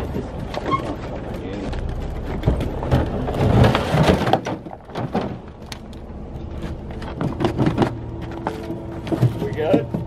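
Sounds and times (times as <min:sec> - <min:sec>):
knocks and clunks: 0:00.0 - 0:10.0.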